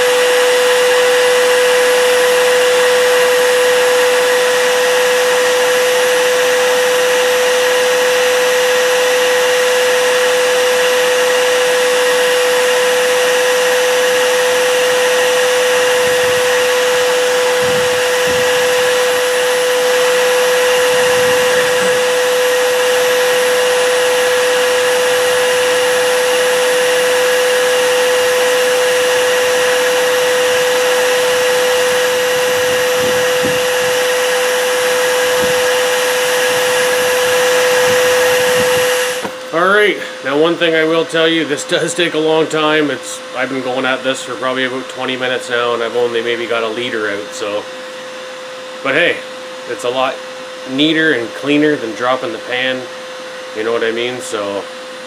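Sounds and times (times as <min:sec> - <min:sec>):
vacuum humming: 0:00.0 - 0:55.0.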